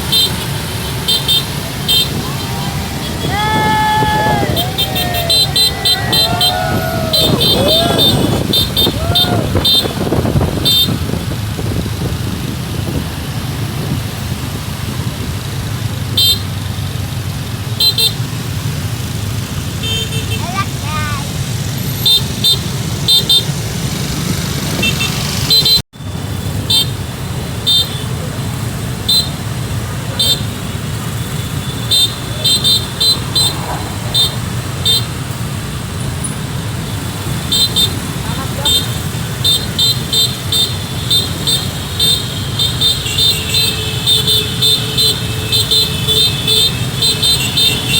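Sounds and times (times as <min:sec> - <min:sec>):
rumble of vehicle engines and traffic: 0:00.0 - 0:47.9.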